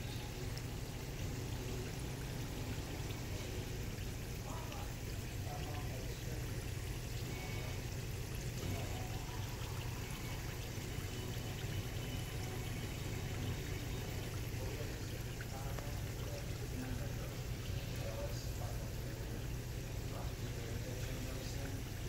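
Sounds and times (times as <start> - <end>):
low steady hum: 0.0 - 22.0
oil bubbling and fizzing: 0.0 - 22.0.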